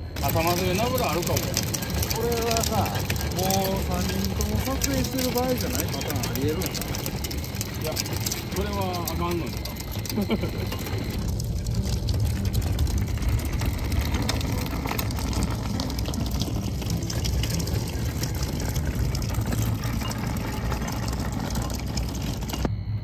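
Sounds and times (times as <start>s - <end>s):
sea water splashing and lapping: 0.0s - 22.7s
steady low rumble: 0.0s - 23.0s.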